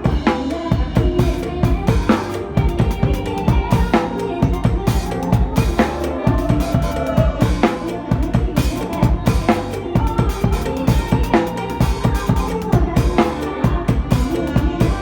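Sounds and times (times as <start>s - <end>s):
backing track with melody instruments: 0.0s - 15.0s
drum kit playing fast beat: 0.0s - 15.0s.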